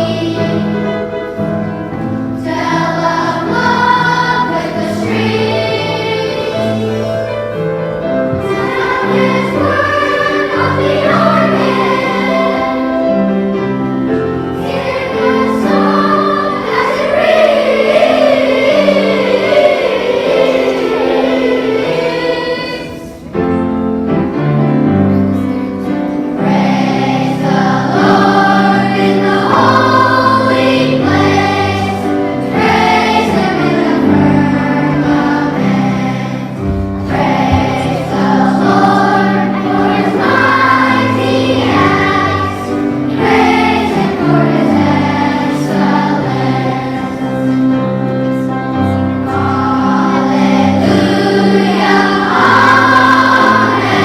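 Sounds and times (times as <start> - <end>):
children's choir singing: 0.0 - 54.0
instrumental accompaniment: 0.0 - 54.0.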